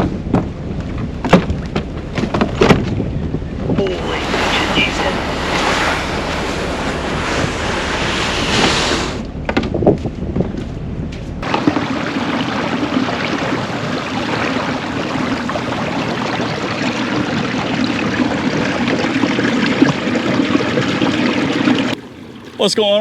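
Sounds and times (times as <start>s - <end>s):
water splashing against kayak hull: 0.0s - 9.3s, 11.4s - 23.0s.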